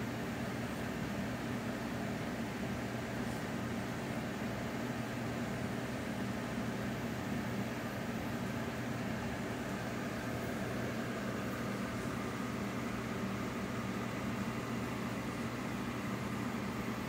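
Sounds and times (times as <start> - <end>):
aquarium equipment humming: 0.0 - 17.0.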